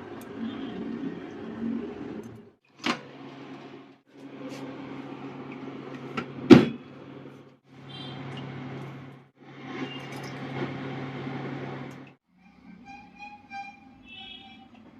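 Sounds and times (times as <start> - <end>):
microwave oven humming: 0.0 - 12.2.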